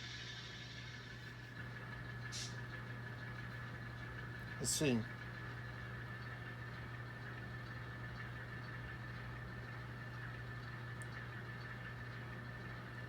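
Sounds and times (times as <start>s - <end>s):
model locomotive engine hum: 0.0s - 13.0s.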